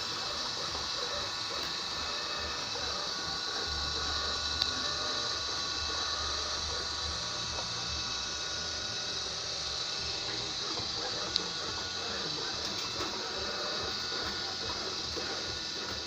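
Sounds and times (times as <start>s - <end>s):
robot vacuum cleaner running: 0.0s - 16.0s.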